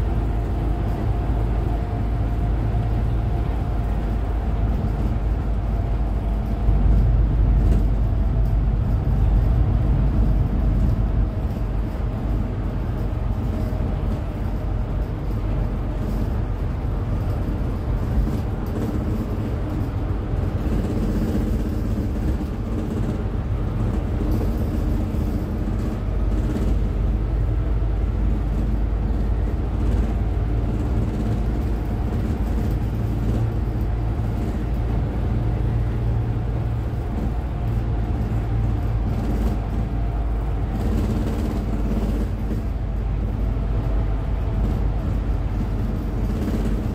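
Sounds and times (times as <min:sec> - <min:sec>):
diesel engine rumbling: 0:00.0 - 0:46.9.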